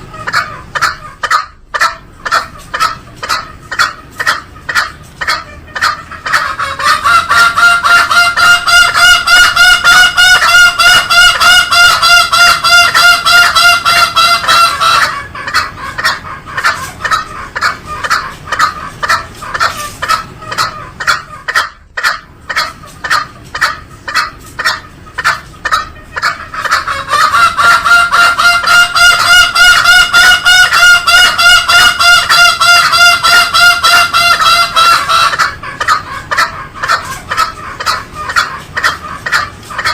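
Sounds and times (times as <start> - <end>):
junglefowl nasal calls: 0.0 - 39.9.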